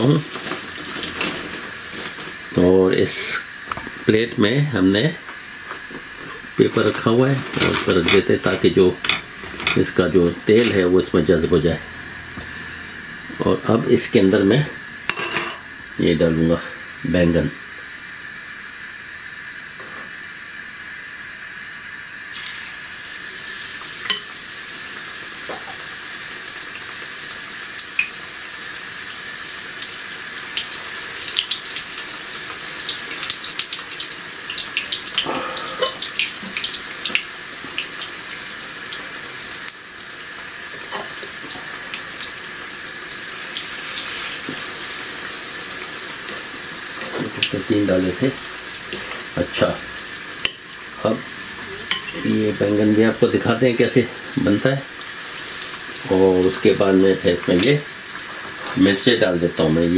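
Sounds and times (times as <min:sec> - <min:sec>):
deep-frying sizzle and crackles: 0:00.0 - 0:59.9.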